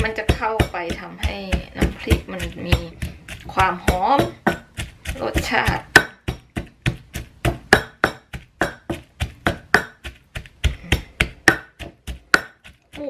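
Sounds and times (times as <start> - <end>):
pestle pounding in clay mortar: 0.0 - 13.0.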